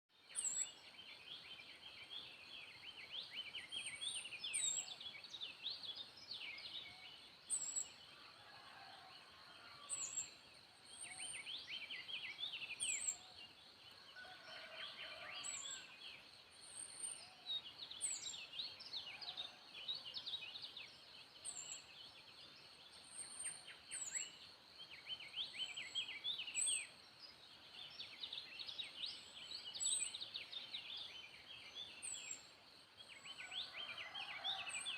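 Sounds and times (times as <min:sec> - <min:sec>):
wild birds singing: 0:00.1 - 0:34.9.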